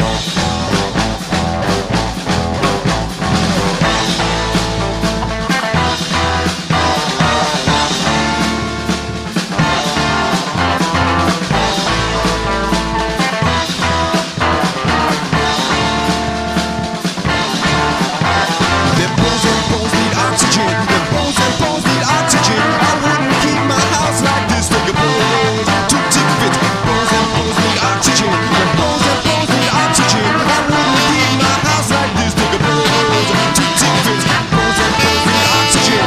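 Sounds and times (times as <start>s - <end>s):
loud rock music with drums: 0.0s - 36.0s.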